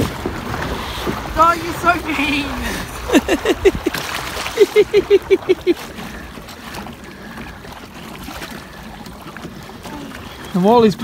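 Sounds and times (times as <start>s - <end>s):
water washing around kayak: 0.0s - 11.0s.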